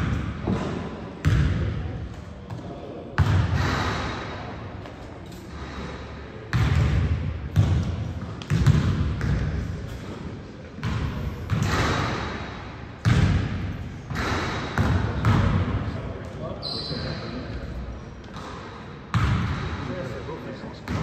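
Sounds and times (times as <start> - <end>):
basketball bouncing in echoing gym: 0.0 - 21.0.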